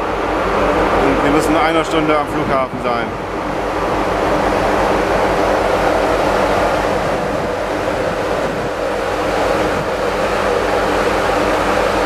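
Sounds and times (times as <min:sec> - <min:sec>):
machinery hum: 0:00.0 - 0:12.0
rushing ventilation fan noise: 0:00.0 - 0:12.0.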